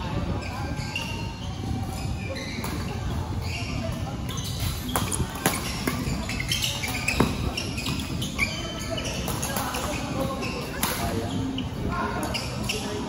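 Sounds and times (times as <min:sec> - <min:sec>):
shoes squeaking on court: 0:00.1 - 0:13.0.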